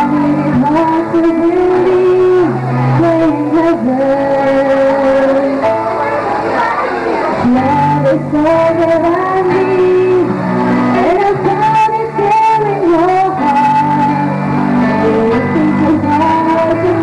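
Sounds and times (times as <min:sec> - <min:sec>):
young women singing: 0:00.0 - 0:05.8, 0:07.4 - 0:17.0
backing music: 0:00.0 - 0:17.0.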